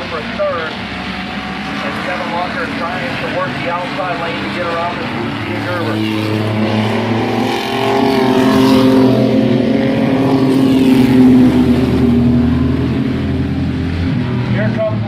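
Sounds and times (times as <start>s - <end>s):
racing truck engines passing: 0.0s - 15.0s.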